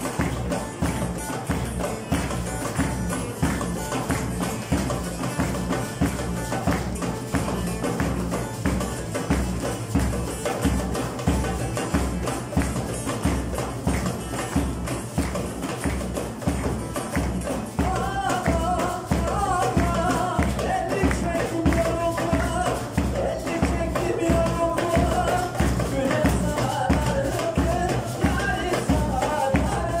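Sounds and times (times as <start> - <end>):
audience hand-clapping: 0.0 - 30.0
goblet drum beat: 0.0 - 30.0
maracas: 0.0 - 30.0
plucked lute: 0.0 - 30.0.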